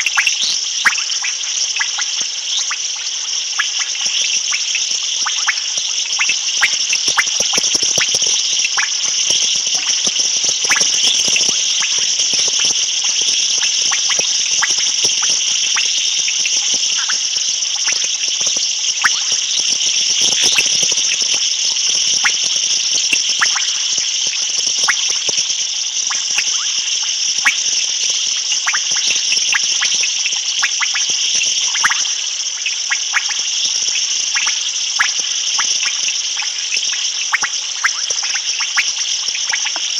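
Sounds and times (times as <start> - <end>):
frog clicks and chirps: 0.0 - 33.7, 34.3 - 39.9
high-pitched insect trill: 0.0 - 39.9.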